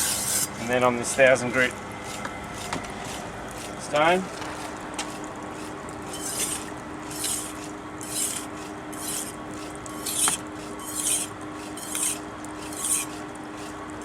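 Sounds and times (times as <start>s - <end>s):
knife grinding on stone: 0.0s - 0.6s, 2.0s - 13.8s
grinder motor humming: 0.0s - 14.0s.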